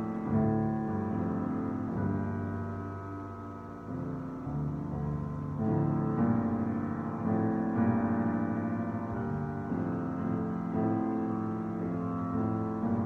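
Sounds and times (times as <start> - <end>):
piano playing chords: 0.0 - 13.0.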